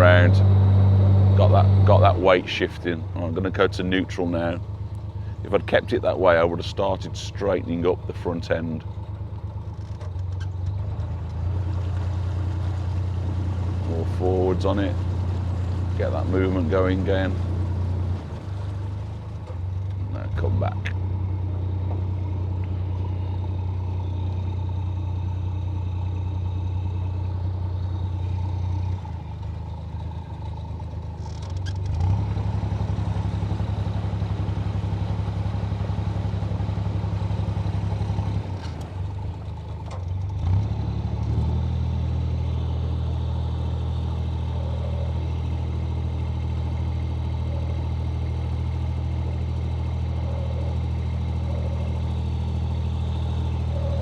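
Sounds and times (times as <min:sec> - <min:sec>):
boat diesel engine running: 0:00.0 - 0:54.0.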